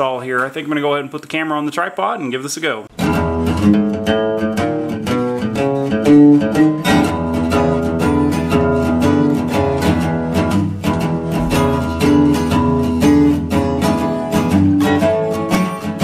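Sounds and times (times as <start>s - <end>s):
plucked guitar instrumental: 2.9s - 16.0s.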